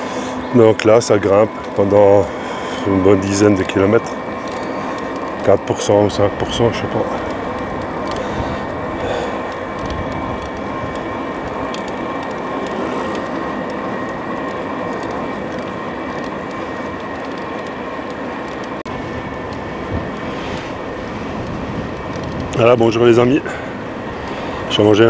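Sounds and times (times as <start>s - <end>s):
electric motor whine: 0.0s - 25.0s
wind and tyres on road: 0.0s - 25.0s.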